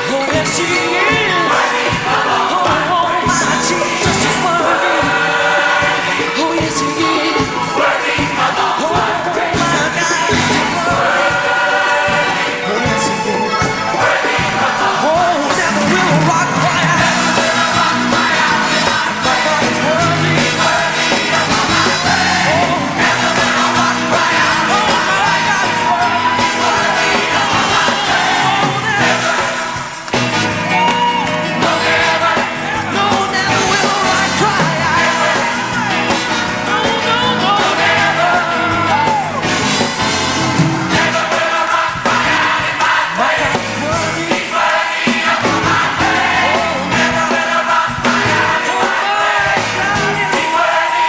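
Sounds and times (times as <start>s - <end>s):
congregation voices: 0.0s - 51.0s
live gospel music: 0.0s - 51.0s.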